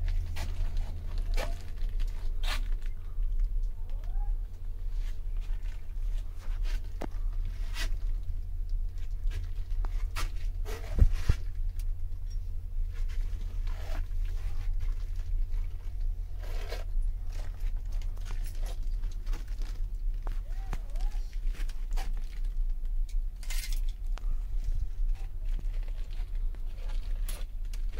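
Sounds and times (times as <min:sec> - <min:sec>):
steady low rumble: 0:00.0 - 0:27.9.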